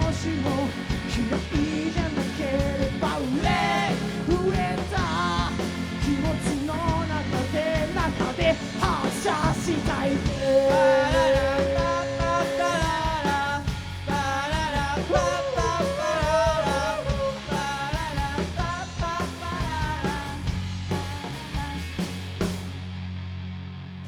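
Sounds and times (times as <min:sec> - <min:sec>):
live rock band playing: 0:00.0 - 0:23.1.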